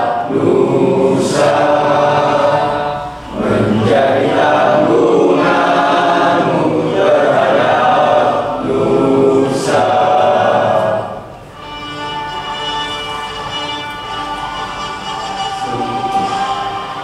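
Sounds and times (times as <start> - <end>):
students singing together: 0.0 - 17.0.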